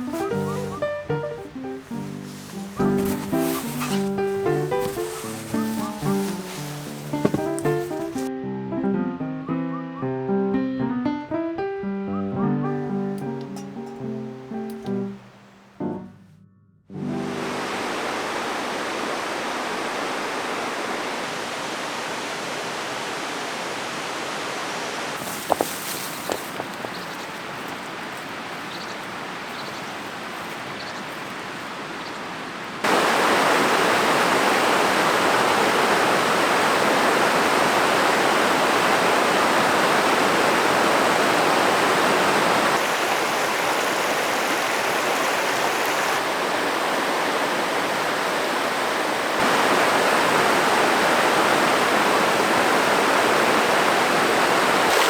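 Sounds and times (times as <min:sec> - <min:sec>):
stream rushing: 0:00.0 - 0:08.3, 0:17.1 - 0:55.0.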